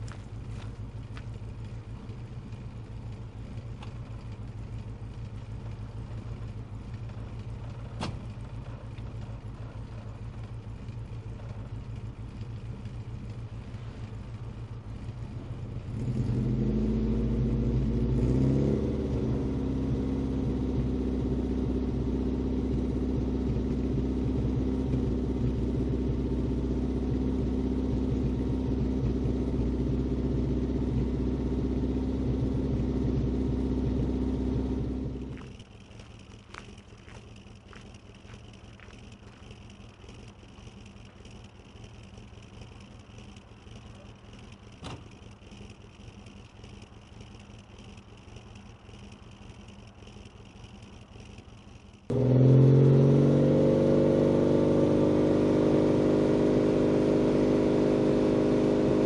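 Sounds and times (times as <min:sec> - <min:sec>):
car engine exhaust idling and revving: 0:00.0 - 0:59.0.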